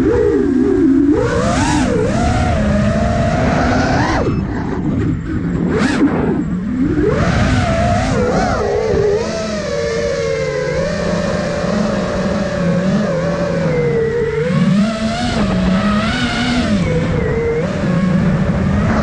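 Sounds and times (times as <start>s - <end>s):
drone motors whining: 0.0s - 19.0s
propeller air rushing: 0.0s - 19.0s.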